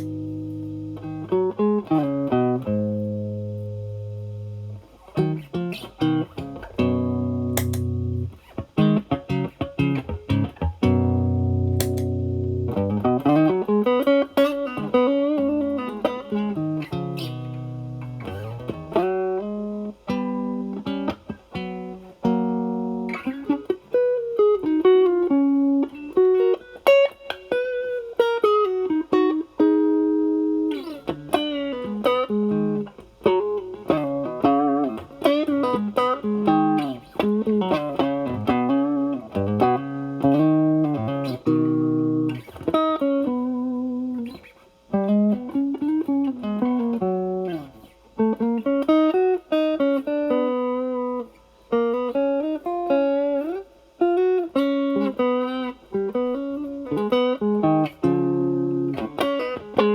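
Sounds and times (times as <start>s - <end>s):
overdriven electric guitar: 0.0s - 59.9s.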